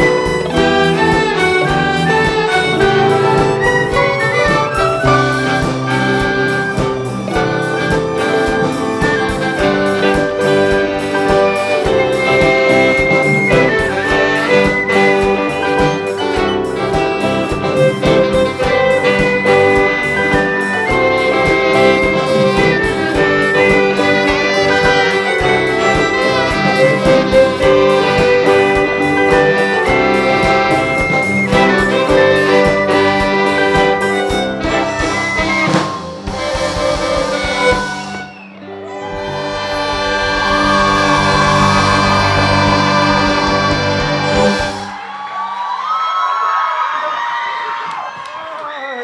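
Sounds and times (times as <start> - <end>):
brass and saxophone melody: 0.0 - 45.1
percussion beat: 0.0 - 45.2
strings: 0.0 - 45.2.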